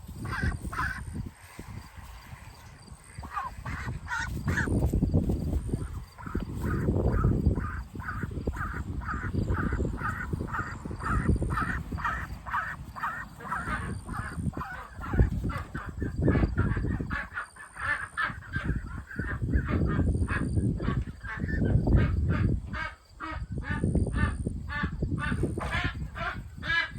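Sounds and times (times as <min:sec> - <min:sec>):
ducks quacking: 0:00.1 - 0:01.3, 0:03.0 - 0:26.9.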